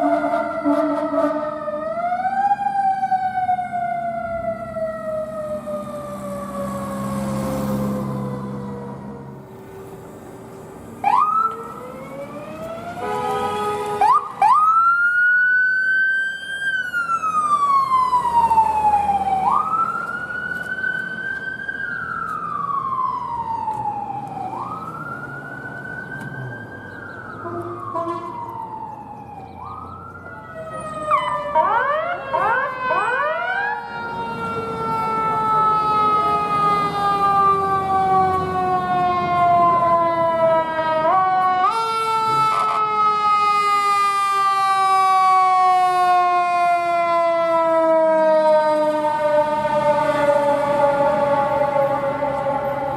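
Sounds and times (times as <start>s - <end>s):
siren chirps: 0.0s - 9.3s, 11.0s - 52.9s
siren wailing: 0.0s - 9.3s, 11.0s - 52.9s.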